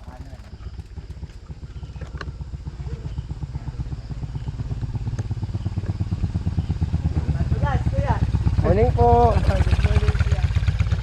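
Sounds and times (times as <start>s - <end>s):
motorcycle engine approaching: 0.0s - 11.0s.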